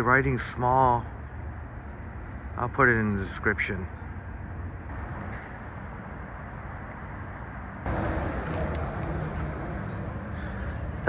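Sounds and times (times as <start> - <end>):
traffic hum: 0.0 - 11.0.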